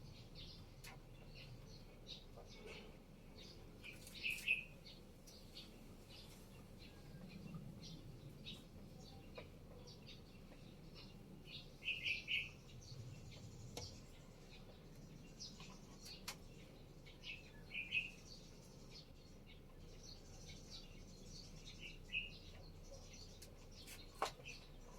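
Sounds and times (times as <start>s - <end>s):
birds chirping: 0.0s - 24.9s.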